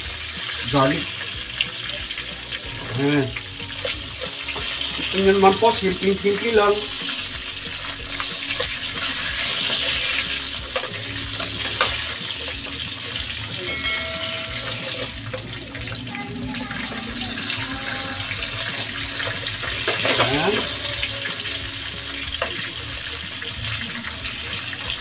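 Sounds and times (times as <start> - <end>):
chicken wings sizzling in a pan: 0.0 - 25.0.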